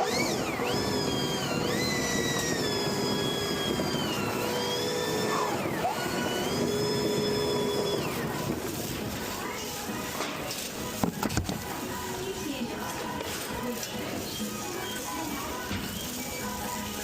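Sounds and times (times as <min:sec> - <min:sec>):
electric power tool motor whining: 0:00.0 - 0:17.0.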